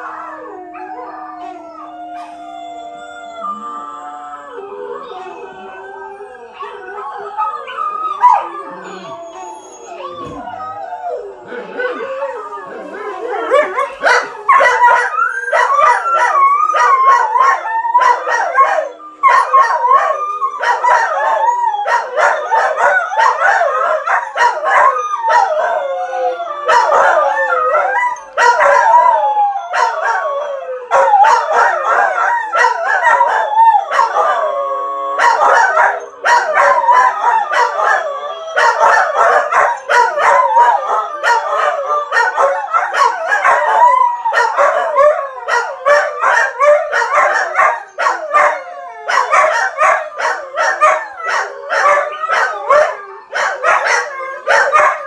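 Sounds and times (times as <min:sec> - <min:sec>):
dogs howling: 0:00.0 - 0:55.0.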